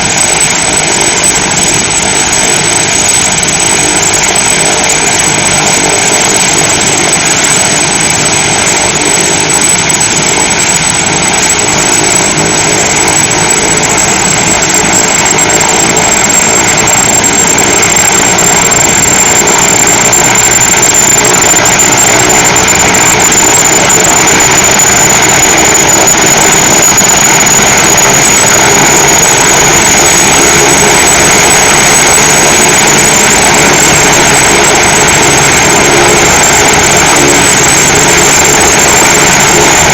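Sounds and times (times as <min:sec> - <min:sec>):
helicopter rotor running: 0:00.0 - 0:39.9
high turbine whine: 0:00.0 - 0:39.9.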